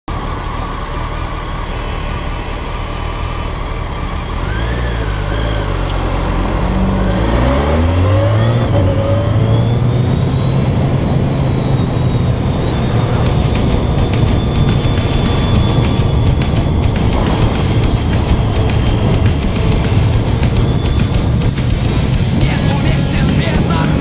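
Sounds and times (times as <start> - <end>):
motorcycle engine accelerating: 0.1 - 24.0.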